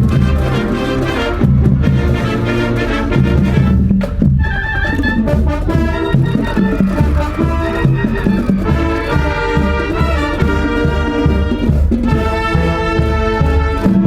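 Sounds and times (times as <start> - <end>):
trumpets and trombones: 0.0 - 14.0
wind band playing: 0.0 - 14.0.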